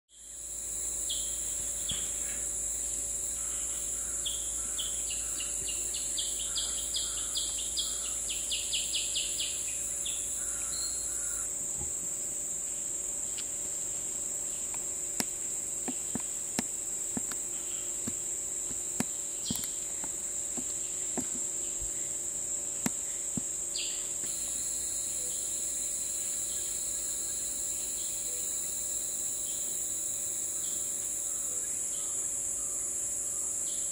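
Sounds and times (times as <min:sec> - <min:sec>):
insect short high notes: 0:00.1 - 0:11.6, 0:14.4 - 0:33.9
high-pitched insect drone: 0:00.1 - 0:33.9
sharp insect clicks: 0:00.8 - 0:11.5, 0:13.1 - 0:32.1.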